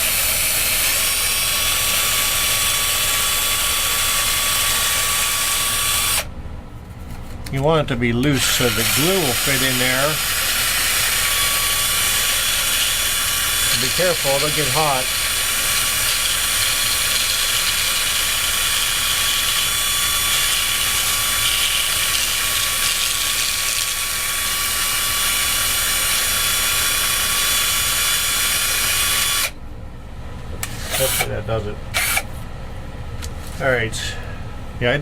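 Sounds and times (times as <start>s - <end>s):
power drill running: 0.0s - 6.3s, 8.3s - 29.6s, 30.6s - 31.3s, 31.9s - 32.3s.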